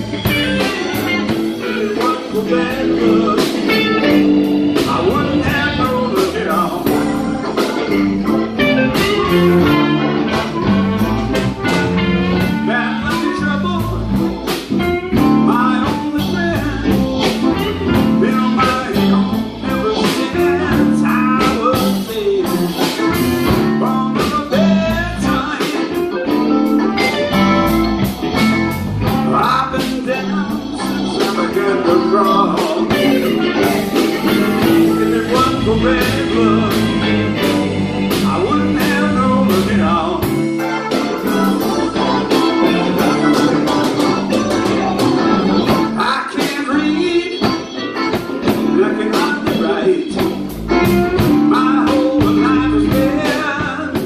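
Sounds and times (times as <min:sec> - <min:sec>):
bass: 0:00.0 - 0:54.0
drums keeping a steady beat: 0:00.0 - 0:54.0
electric guitar: 0:00.0 - 0:54.0.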